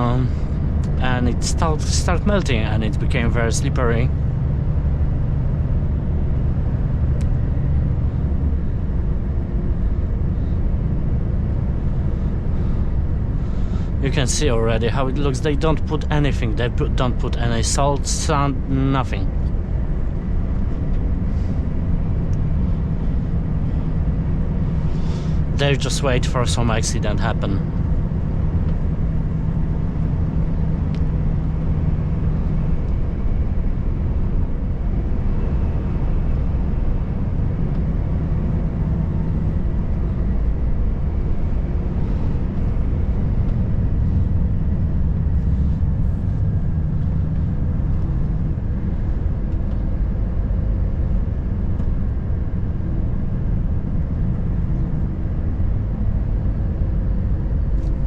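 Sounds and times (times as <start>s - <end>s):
road and tyre noise: 0.0s - 58.0s
truck diesel engine droning: 0.0s - 58.0s.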